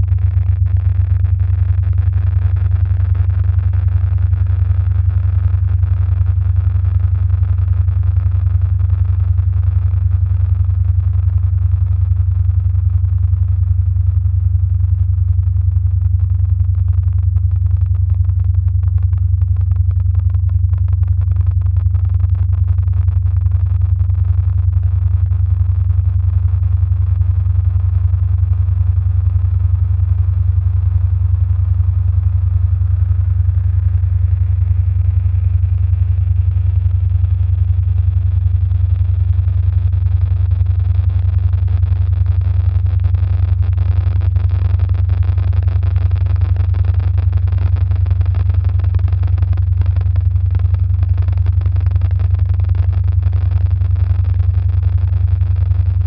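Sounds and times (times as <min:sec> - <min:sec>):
pulsing low bass drone: 0:00.0 - 0:56.0.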